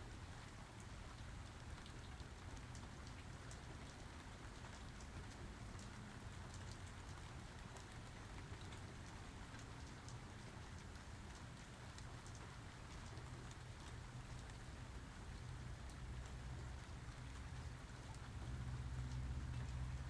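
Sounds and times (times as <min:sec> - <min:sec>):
rain drops pattering: 0:00.0 - 0:20.0.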